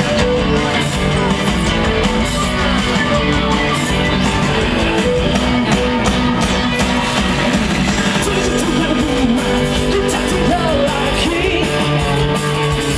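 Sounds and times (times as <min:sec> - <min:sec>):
electric guitar: 0:00.0 - 0:12.9
rock band playing: 0:00.0 - 0:12.9.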